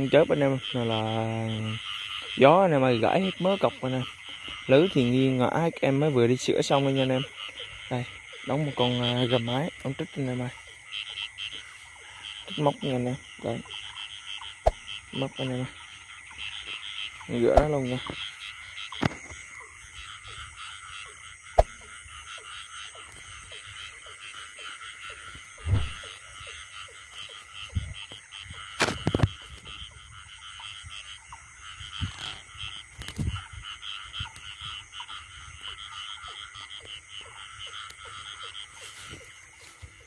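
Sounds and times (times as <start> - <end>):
frogs calling in chorus: 0.0 - 40.0.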